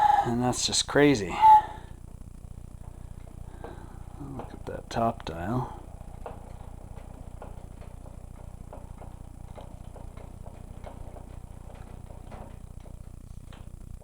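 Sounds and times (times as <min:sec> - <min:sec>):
faint ticks: 0:00.0 - 0:14.0
lathe spindle humming: 0:00.0 - 0:14.0.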